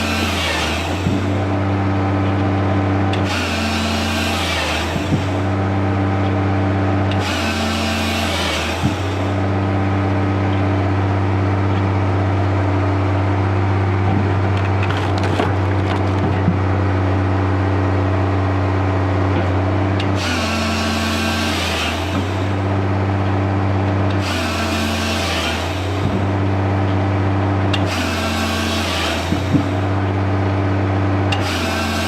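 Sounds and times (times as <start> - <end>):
wood being cut: 0.0 - 32.0.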